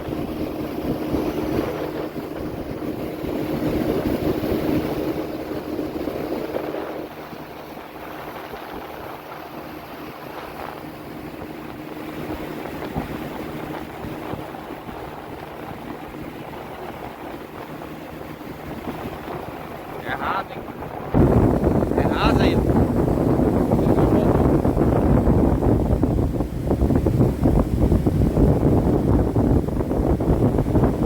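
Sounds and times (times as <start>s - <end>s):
outboard motor running: 0.0s - 31.0s
wind buffeting microphone: 0.0s - 31.0s.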